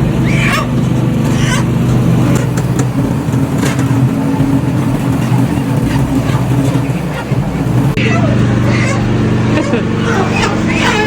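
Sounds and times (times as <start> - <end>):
machinery motor humming: 0.0 - 11.0.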